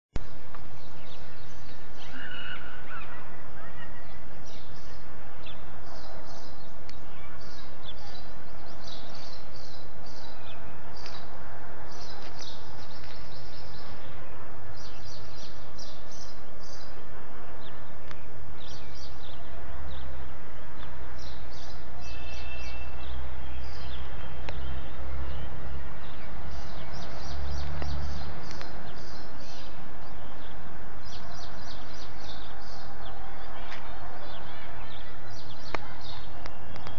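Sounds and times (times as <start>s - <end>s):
birds chirping: 0.2s - 36.9s.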